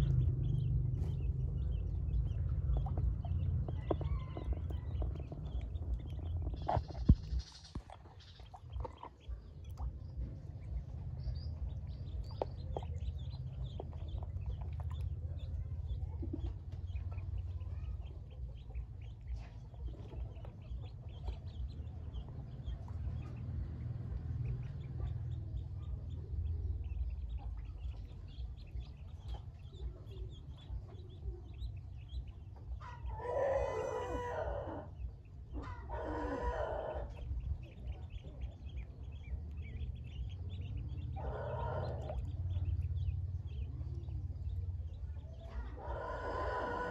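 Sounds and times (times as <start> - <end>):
ducklings peeping: 0.0 - 46.9
low rumble: 0.0 - 46.9.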